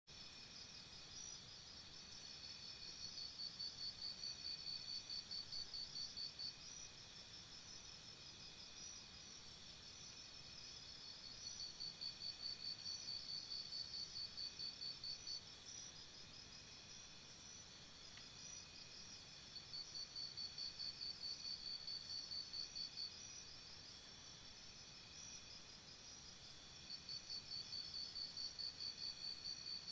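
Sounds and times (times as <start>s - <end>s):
insect chirping: 0.1s - 29.9s
soft steady hiss: 0.1s - 29.9s.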